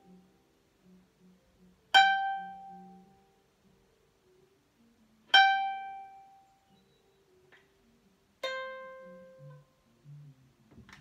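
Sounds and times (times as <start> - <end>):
ukulele plucked notes: 0.0 - 11.0.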